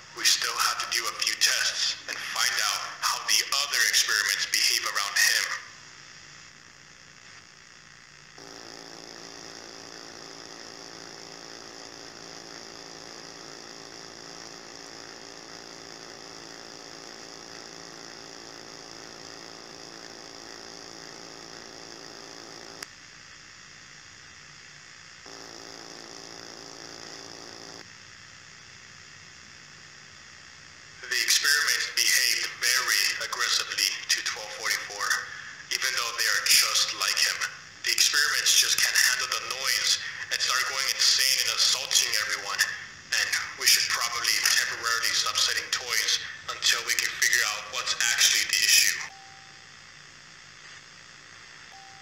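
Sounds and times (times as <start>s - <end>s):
electronic hum and hiss: 0.0s - 52.0s.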